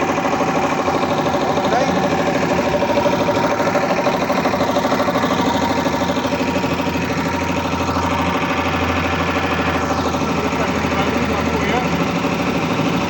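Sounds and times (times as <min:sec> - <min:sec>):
air compressor chugging: 0:00.0 - 0:13.0.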